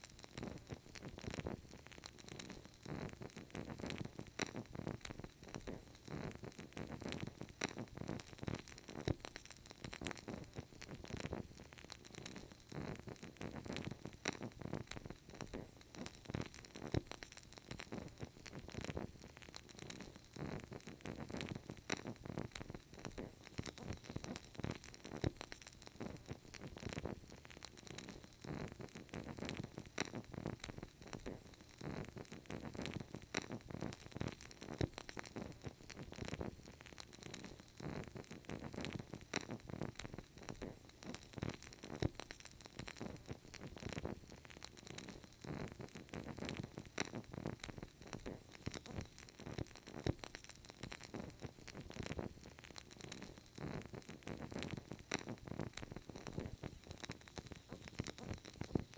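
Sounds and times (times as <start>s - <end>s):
faint hiss: 0.0s - 58.9s
candle wick crackling: 0.1s - 58.9s.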